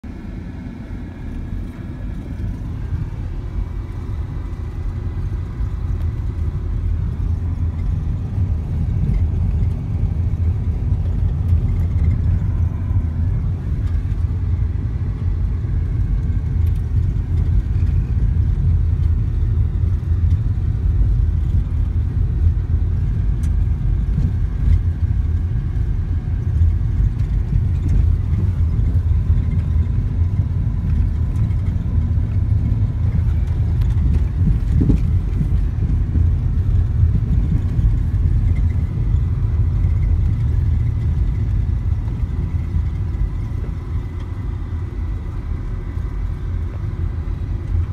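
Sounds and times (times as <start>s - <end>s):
car driving on gravel road: 0.1s - 47.9s.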